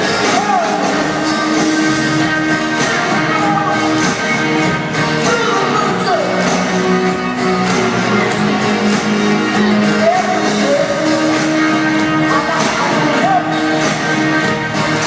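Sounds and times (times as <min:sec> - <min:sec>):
live rock band: 0:00.0 - 0:15.0
lead vocal singing: 0:02.5 - 0:15.0.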